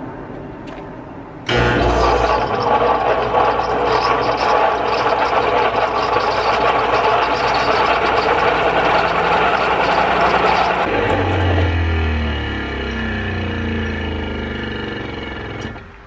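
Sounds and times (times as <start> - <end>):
fan motor rough mechanical noise: 1.5 - 16.0.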